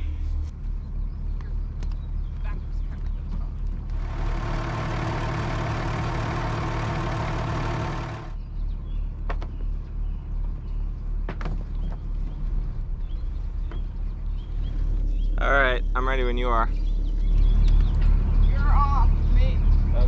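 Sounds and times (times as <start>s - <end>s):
diesel engines idling: 0.0s - 20.0s.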